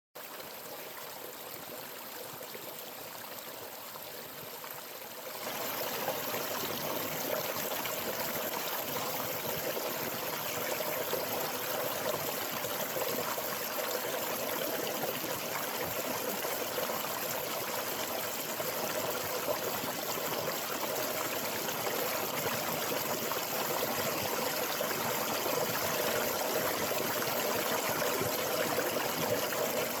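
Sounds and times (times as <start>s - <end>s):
stream flowing and trickling: 0.2s - 30.0s.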